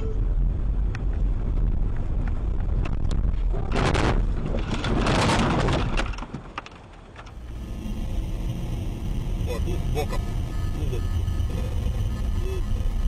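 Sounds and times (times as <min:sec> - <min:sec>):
car low rumble: 0:00.0 - 0:13.0.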